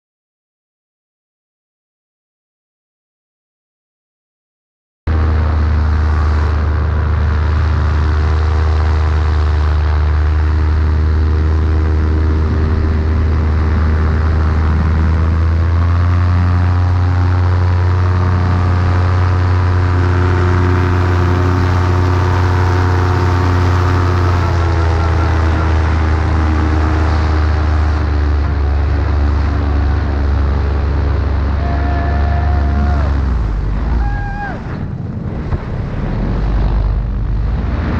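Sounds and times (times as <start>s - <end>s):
paramotor engine and propeller drone: 5.1s - 37.9s.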